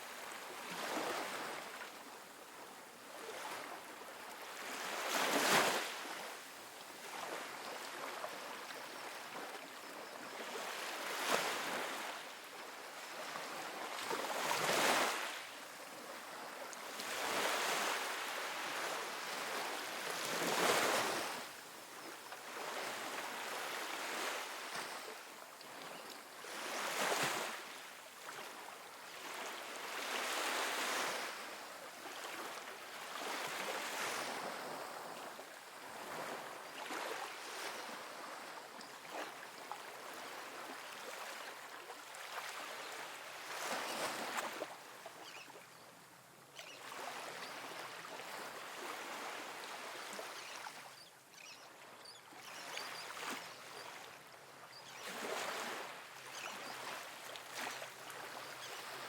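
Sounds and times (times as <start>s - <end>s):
small waves breaking on beach: 0.0s - 59.0s.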